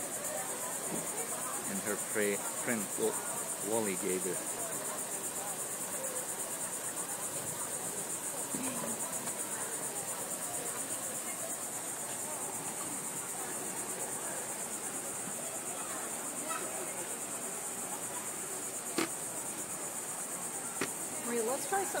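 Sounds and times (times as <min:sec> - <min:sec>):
insects buzzing trill: 0:00.0 - 0:22.0.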